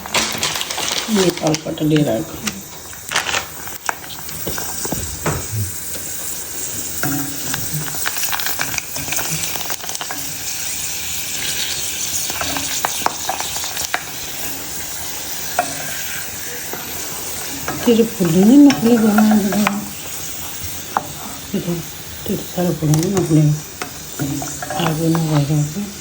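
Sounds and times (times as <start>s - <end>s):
food sizzling in hot oil: 0.0s - 26.0s
utensil stirring: 0.0s - 26.0s.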